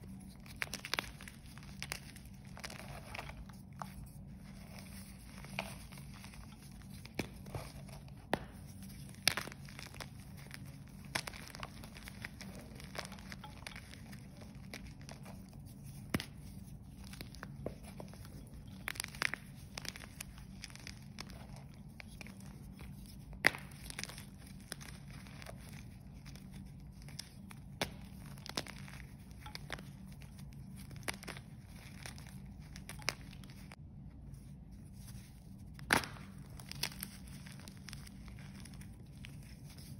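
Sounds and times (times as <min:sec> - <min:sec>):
chalk crunching and snapping: 0:00.0 - 0:33.8, 0:34.9 - 0:39.9.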